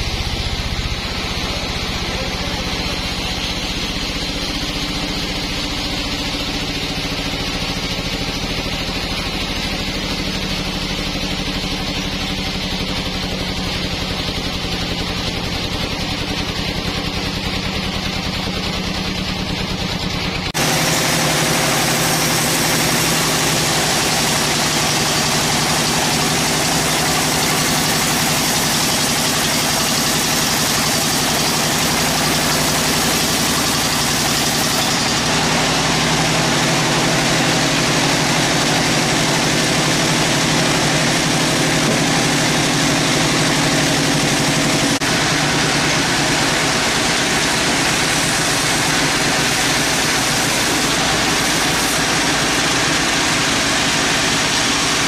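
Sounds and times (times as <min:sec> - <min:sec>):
sawmill engine idling: 0:00.0 - 0:55.0.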